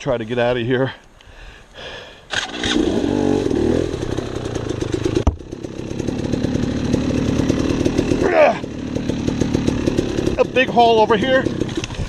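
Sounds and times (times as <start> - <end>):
dirt bike engine revving: 2.3 - 12.0.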